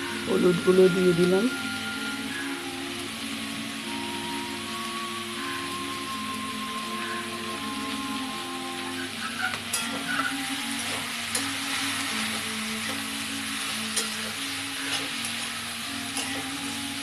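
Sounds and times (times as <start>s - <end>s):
soft background music: 0.0s - 17.0s
vegetables sizzling in hot oil: 0.0s - 17.0s.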